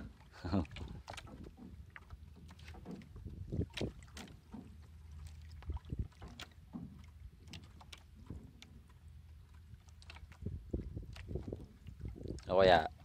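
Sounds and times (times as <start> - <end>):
light knocks and splashes: 0.0 - 13.0
water lapping against boat hull: 0.0 - 13.0.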